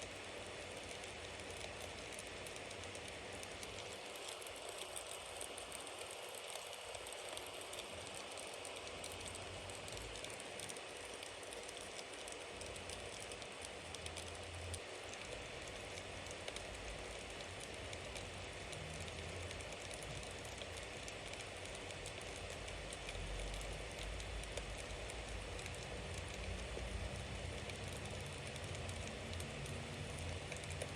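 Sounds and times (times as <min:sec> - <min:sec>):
bonfire crackling and hissing: 0:00.0 - 0:30.9.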